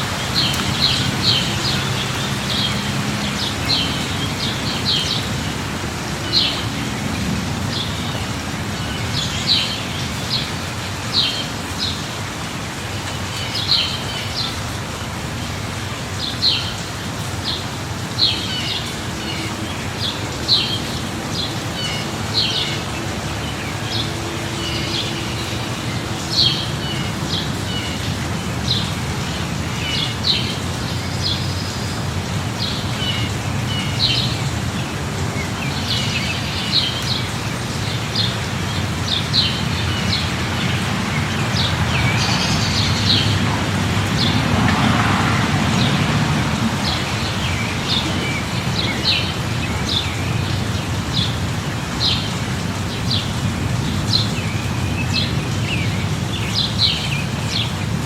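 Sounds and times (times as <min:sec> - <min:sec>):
birds chirping: 0:00.0 - 0:12.2, 0:13.0 - 0:58.0.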